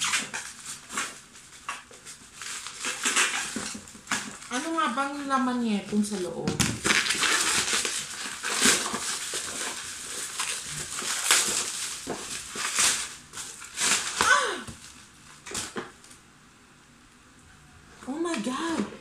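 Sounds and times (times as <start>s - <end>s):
bubble wrap crinkling and tearing: 0.0s - 16.2s.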